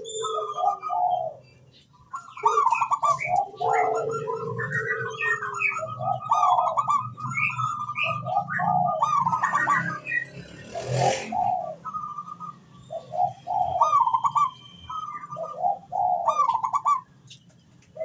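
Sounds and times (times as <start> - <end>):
doves cooing: 0.0 - 17.3.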